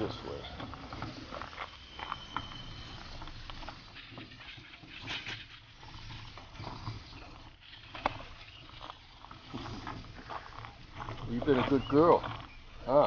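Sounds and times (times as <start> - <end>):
wheelbarrow rolling over gravel: 0.0 - 13.0.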